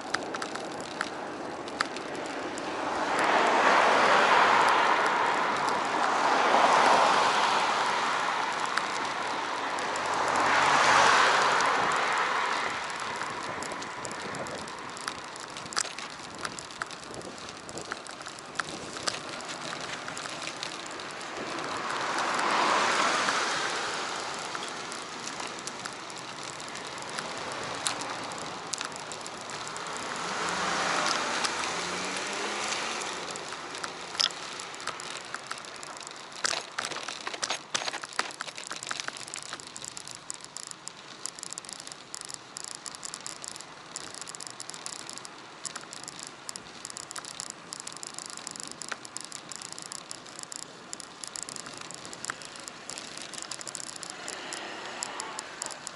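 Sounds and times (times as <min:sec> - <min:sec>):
sharp clicks: 0:00.0 - 0:07.6, 0:08.5 - 0:55.9
steady crackling rattle: 0:00.0 - 0:55.9
vehicles passing: 0:00.0 - 0:55.9.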